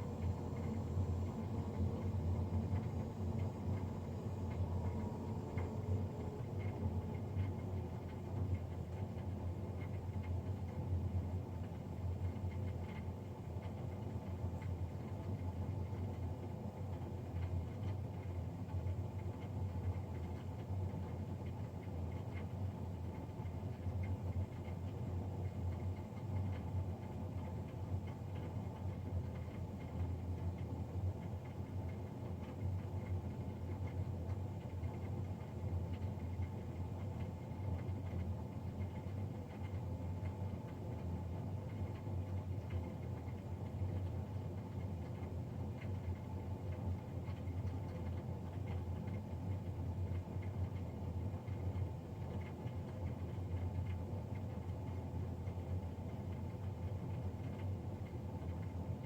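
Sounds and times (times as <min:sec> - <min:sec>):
boiler fan droning: 0:00.0 - 0:59.0.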